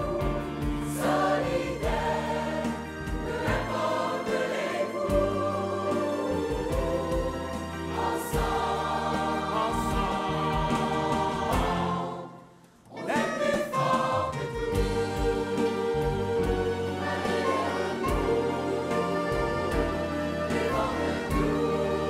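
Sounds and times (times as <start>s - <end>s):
mixed choir singing in harmony: 0.0s - 22.0s.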